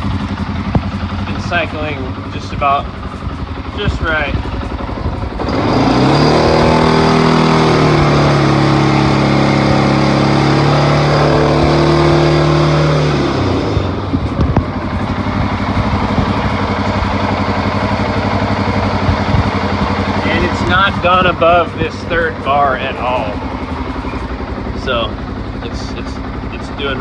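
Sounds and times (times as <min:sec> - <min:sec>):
electric cooling fan running: 0:00.0 - 0:27.0
engine idling: 0:00.0 - 0:27.0.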